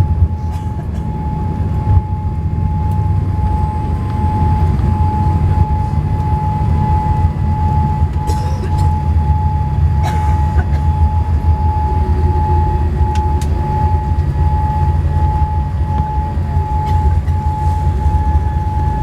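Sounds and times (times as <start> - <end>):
aircraft cabin low rumble: 0.0 - 19.0
hydraulic system whine: 0.0 - 19.0.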